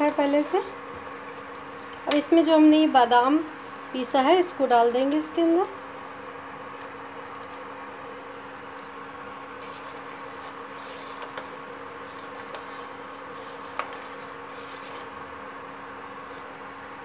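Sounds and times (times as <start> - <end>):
induction cooktop humming: 0.0 - 17.0.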